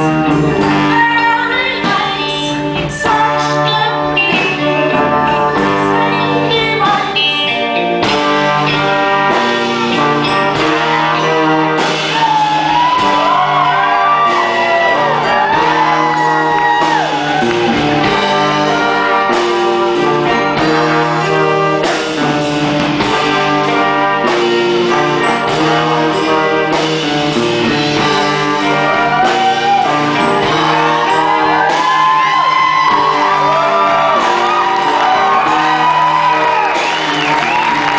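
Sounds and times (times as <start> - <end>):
live rock band playing: 0.0 - 37.9.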